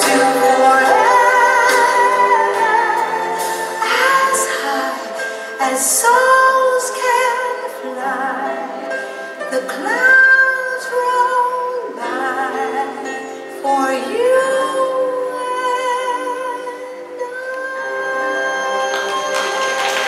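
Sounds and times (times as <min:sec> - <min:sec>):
woman singing with vibrato: 0:00.0 - 0:20.0.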